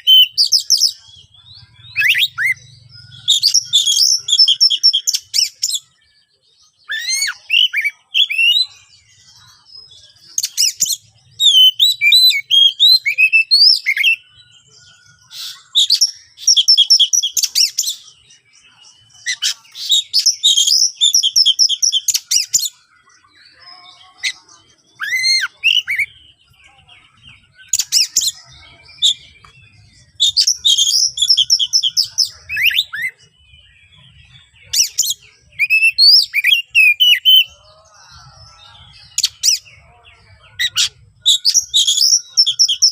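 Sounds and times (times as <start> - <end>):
bird singing harsh song: 0.0 - 42.9.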